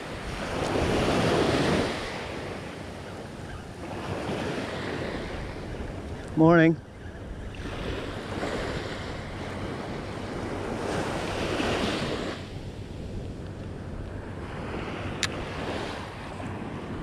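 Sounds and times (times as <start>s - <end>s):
small waves washing up a beach: 0.0s - 17.0s
wind noise on microphone: 0.0s - 17.0s.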